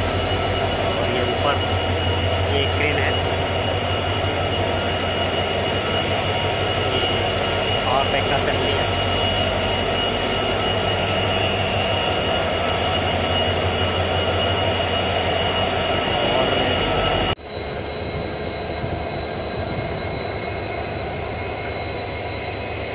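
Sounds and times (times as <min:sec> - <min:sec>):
diesel locomotive engine drone: 0:00.0 - 0:22.9
high whining tones: 0:00.0 - 0:22.9.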